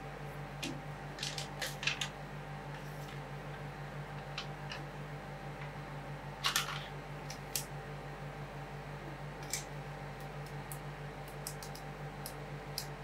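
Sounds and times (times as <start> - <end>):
cooling unit hum: 0.0 - 13.0.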